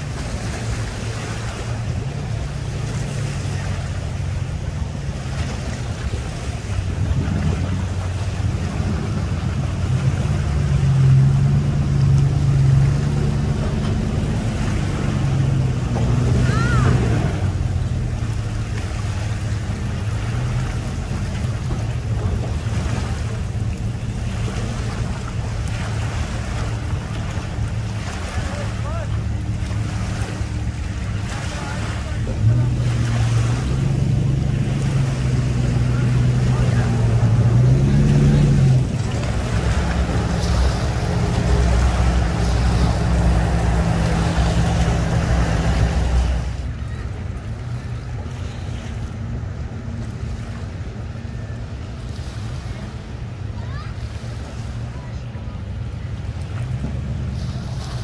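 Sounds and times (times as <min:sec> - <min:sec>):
outboard motor running: 0:00.0 - 0:58.0
propeller churning water: 0:00.0 - 0:58.0.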